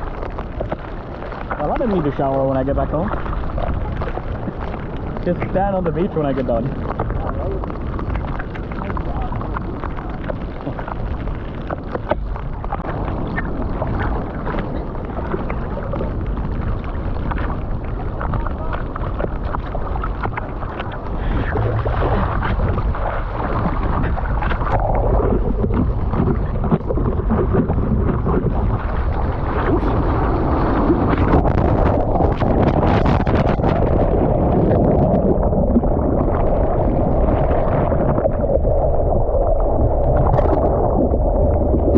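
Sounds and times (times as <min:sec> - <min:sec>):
rushing water and surf: 0:00.0 - 0:41.9
wind buffeting microphone: 0:00.0 - 0:41.9.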